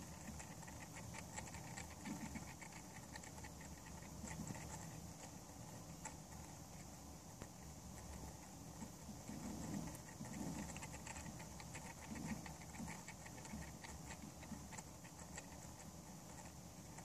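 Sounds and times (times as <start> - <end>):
faint irregular ticking: 0.0 - 17.0
motorized turntable rumble: 0.0 - 17.0.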